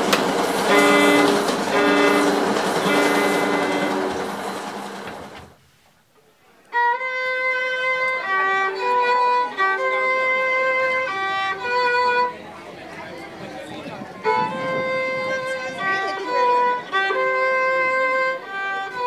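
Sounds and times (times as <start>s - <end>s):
violin sustained bowed notes: 0.7s - 4.2s, 6.7s - 19.0s.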